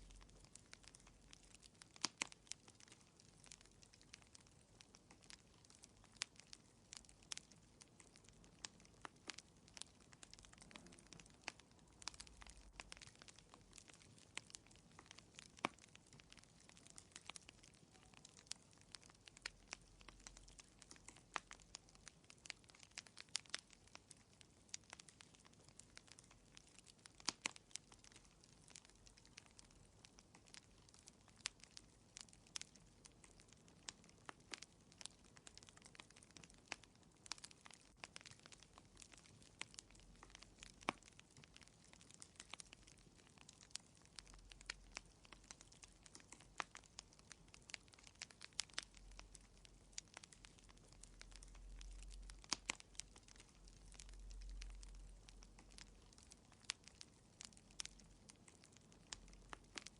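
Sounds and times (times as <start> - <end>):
soft hiss: 0.0 - 59.9
wood fire crackling: 0.0 - 59.9.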